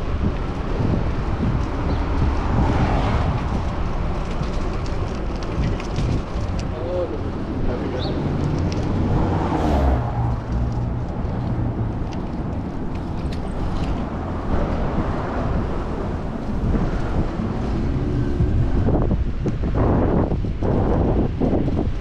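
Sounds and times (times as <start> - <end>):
city car traffic: 0.0 - 22.0
wind rumble on microphone: 0.0 - 22.0.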